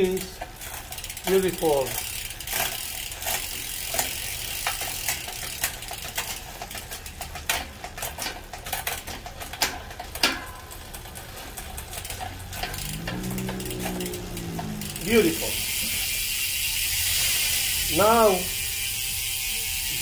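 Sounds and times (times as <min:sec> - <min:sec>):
bicycle chain ratcheting clicks: 0:00.0 - 0:20.0.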